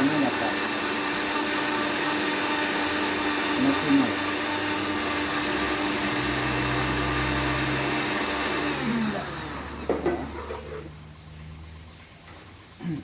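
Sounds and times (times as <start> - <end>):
electric blender running: 0.0 - 11.0.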